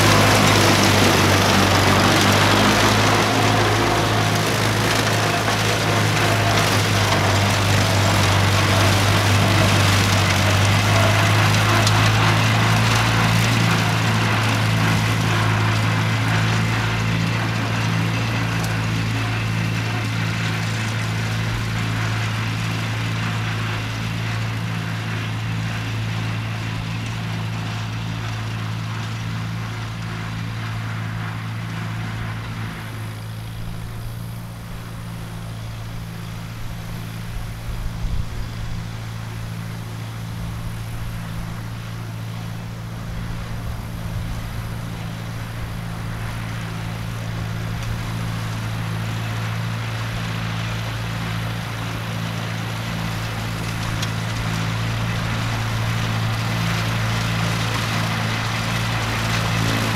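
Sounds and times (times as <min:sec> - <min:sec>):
mower cutting brush: 0:00.0 - 0:59.9
tractor engine running: 0:00.0 - 0:59.9.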